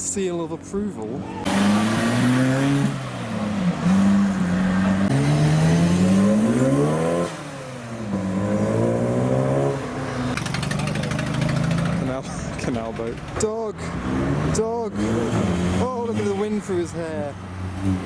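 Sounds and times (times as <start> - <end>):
car engine accelerating: 1.4 - 18.0.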